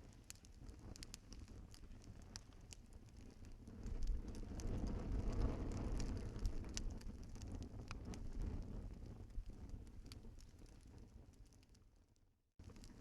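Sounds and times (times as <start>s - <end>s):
roar of flame: 0.0s - 11.7s, 12.6s - 13.0s
wood fire crackling and popping: 0.0s - 13.0s.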